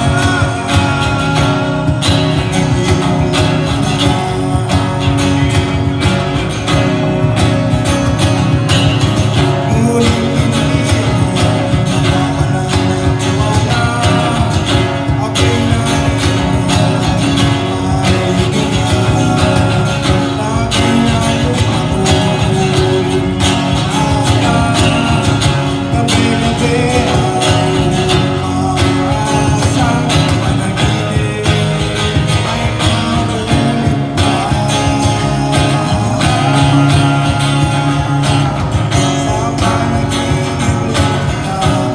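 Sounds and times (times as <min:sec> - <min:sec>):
bass with steady beat: 0:00.0 - 0:41.9
strummed acoustic guitar: 0:00.0 - 0:41.9.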